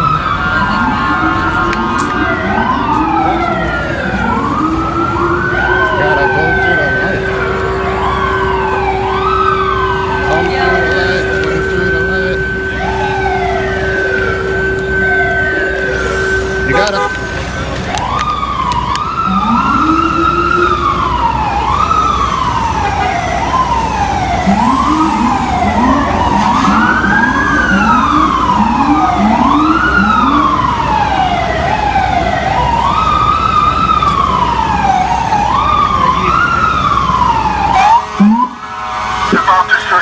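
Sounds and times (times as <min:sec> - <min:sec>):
fast sweeping siren: 0:00.0 - 0:40.0
traffic noise: 0:00.0 - 0:40.0
wailing sirens: 0:00.0 - 0:40.0.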